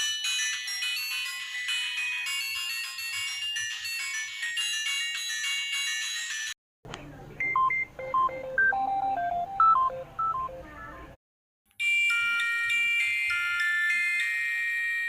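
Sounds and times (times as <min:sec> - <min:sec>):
phone ringtone melodies: 0:00.0 - 0:06.6, 0:07.4 - 0:10.6, 0:11.8 - 0:15.0.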